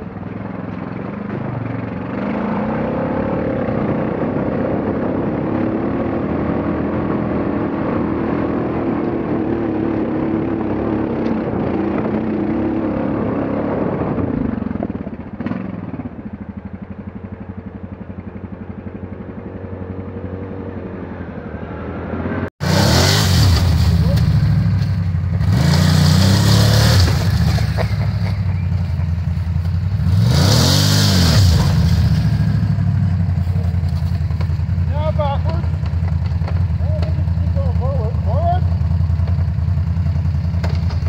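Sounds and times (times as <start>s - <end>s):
off-road vehicle engine: 0.0s - 41.0s.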